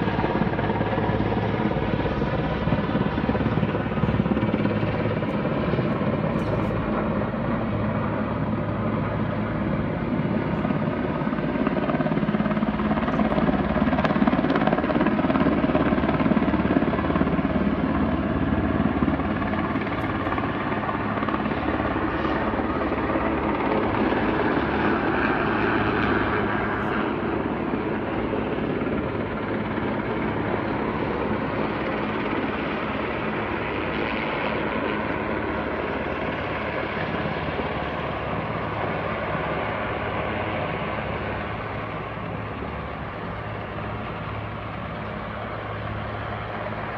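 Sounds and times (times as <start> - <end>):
helicopter flying overhead: 0.0 - 46.9.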